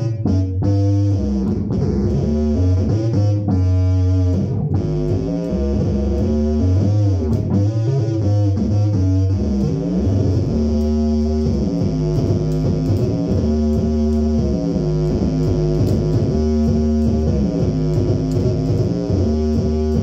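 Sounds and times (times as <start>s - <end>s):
electric bass guitar sustained notes: 0.0s - 20.0s.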